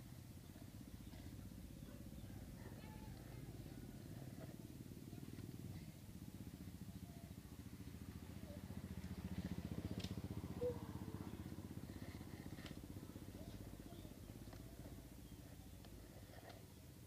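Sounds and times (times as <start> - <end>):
small engine running: 2.4 - 17.0.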